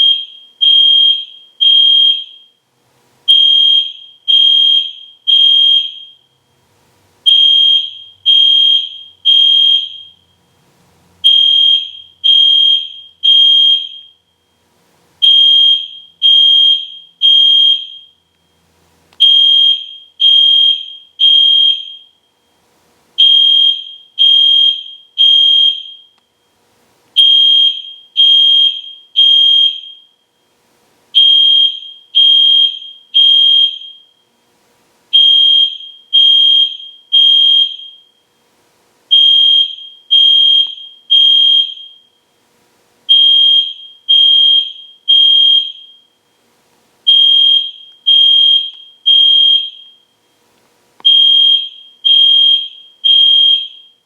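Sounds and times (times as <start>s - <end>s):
fire alarm horn beeps: 0.0s - 2.6s, 3.3s - 6.4s, 7.2s - 10.5s, 11.2s - 14.6s, 15.2s - 18.6s, 19.2s - 22.6s, 23.2s - 26.5s, 27.2s - 30.5s, 31.2s - 34.3s, 35.1s - 38.4s, 39.1s - 42.3s, 43.1s - 46.4s, 47.1s - 50.3s, 51.0s - 54.0s.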